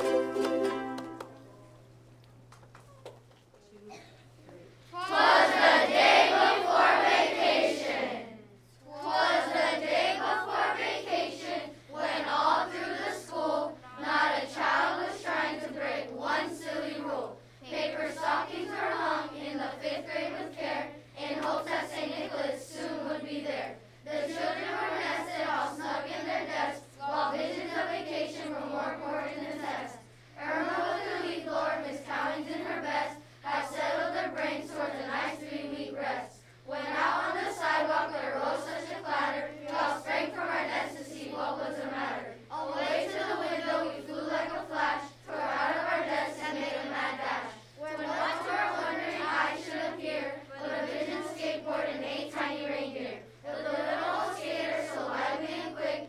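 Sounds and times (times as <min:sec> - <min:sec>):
children's choir singing: 0:00.0 - 0:01.7, 0:04.9 - 0:56.0
steady low hum: 0:00.0 - 0:56.0.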